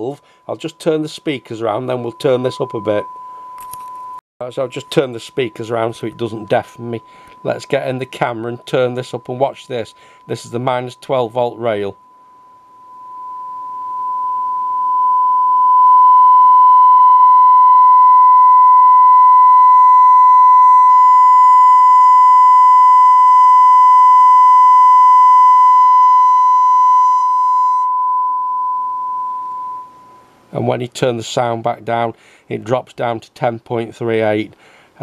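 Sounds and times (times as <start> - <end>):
sine-wave test tone: 0.0 - 30.5.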